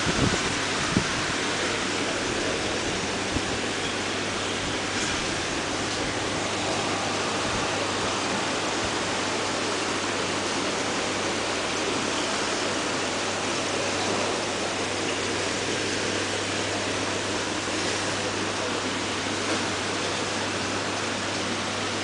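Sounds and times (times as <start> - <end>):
water rushing through aquarium filter: 0.0 - 22.0.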